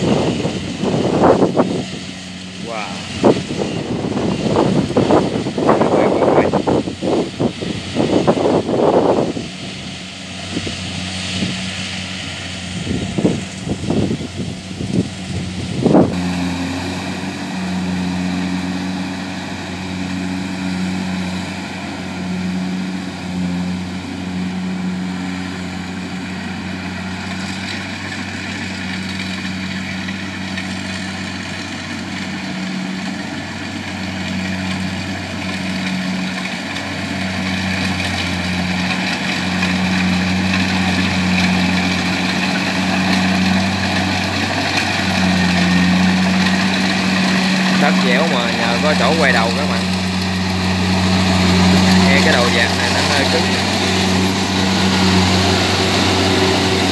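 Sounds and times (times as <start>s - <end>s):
combine harvester diesel engine: 0.0s - 56.9s.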